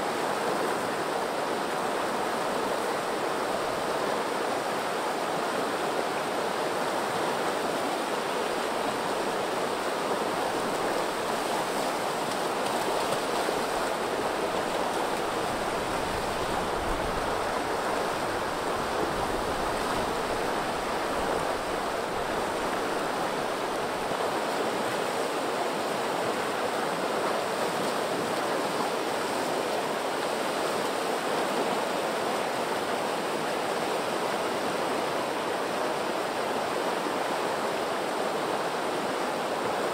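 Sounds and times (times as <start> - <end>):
river water rushing down cascade: 0.0 - 39.9.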